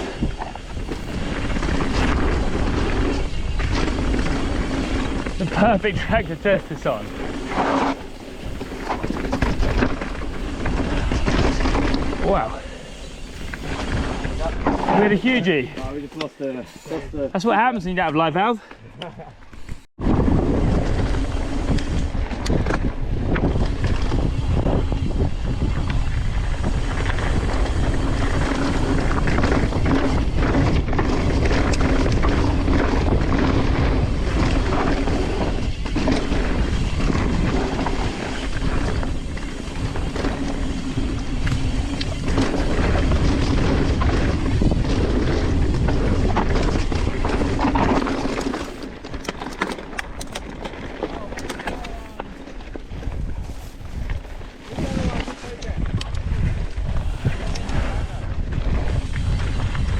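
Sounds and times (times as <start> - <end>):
bike trail and wind rumble: 0.0 - 59.9.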